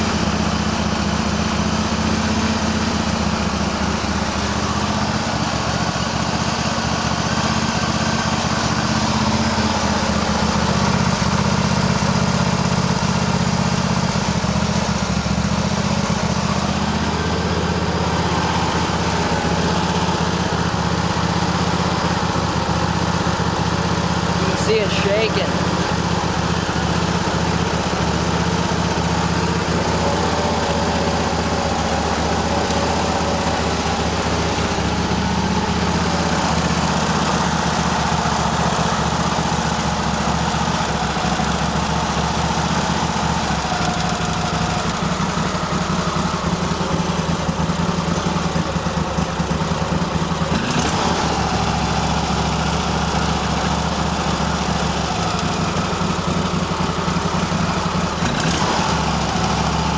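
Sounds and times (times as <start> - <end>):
engine idling roughly and skipping: 0.0 - 59.9.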